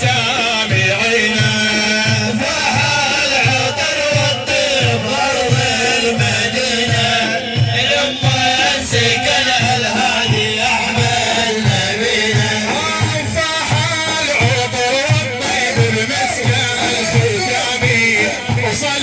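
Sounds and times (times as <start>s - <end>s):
low drum beat: 0.0s - 19.0s.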